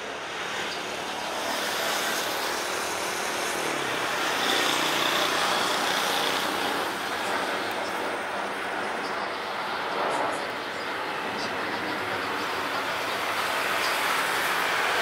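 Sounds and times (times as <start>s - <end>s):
high engine whine: 0.0s - 15.0s
jet engines roaring: 0.0s - 15.0s.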